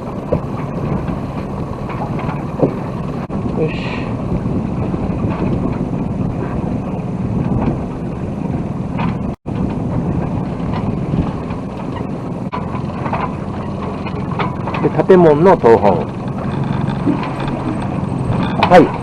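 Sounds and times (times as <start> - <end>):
steady low drone: 0.0 - 19.0
water noise: 0.0 - 19.0
wind buffeting microphone: 0.0 - 19.0.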